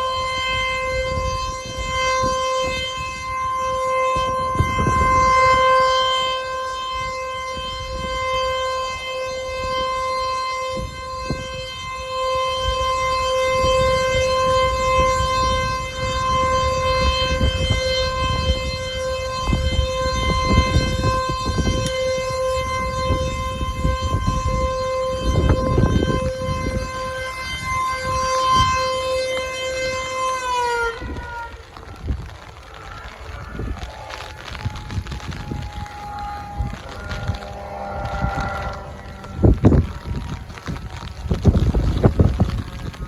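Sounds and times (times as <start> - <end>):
low rumbling noise: 0.0 - 43.0
warning siren steady tone: 0.0 - 43.0.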